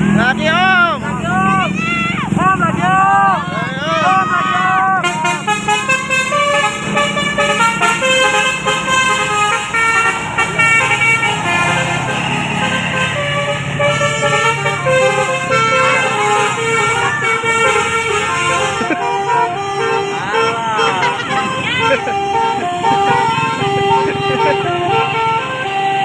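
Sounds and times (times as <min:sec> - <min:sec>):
low engine hum: 0:00.0 - 0:26.0
multi-tone bus horn melody: 0:00.0 - 0:26.0.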